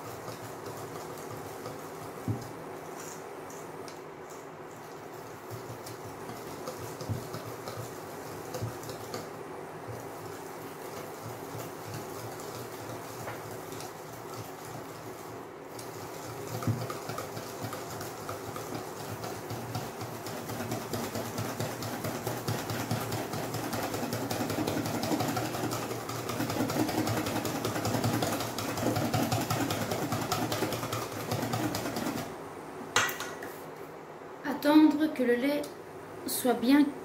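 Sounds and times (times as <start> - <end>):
whisk beating in a metal bowl: 0.0 - 3.6, 4.3 - 32.4.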